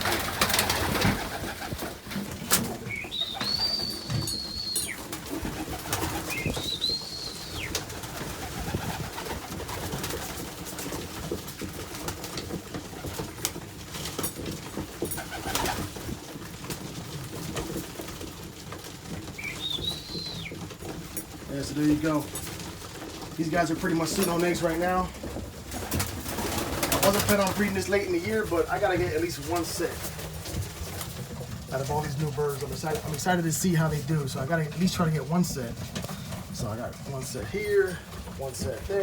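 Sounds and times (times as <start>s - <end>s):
birds pecking at feed: 0.0s - 39.0s
pigeons cooing: 0.0s - 39.0s.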